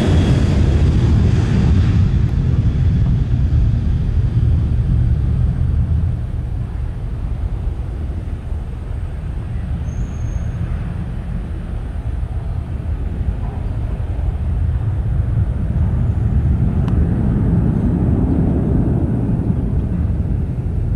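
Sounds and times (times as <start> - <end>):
jet airliner engines rumbling: 0.0 - 20.9.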